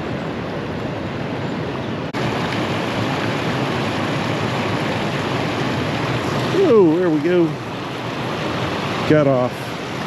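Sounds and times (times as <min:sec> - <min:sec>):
creek water rushing: 0:00.4 - 0:10.0.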